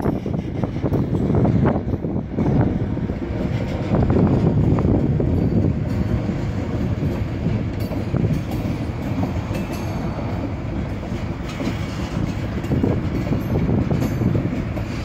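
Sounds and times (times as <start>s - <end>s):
steel train wheels on rails: 0.0s - 15.0s.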